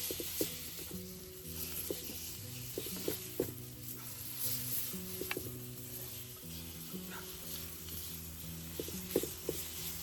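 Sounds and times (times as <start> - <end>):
food sizzling in a pan: 0.0 - 10.0
sharp crackle: 0.0 - 10.0
soft background music: 0.0 - 10.0.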